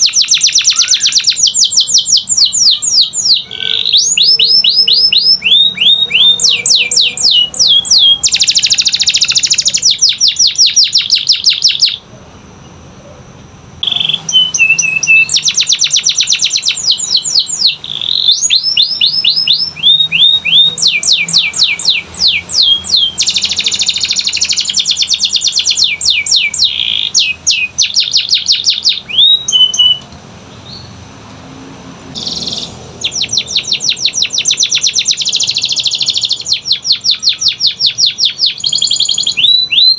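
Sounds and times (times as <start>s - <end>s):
canary singing: 0.0s - 31.2s, 31.9s - 39.9s.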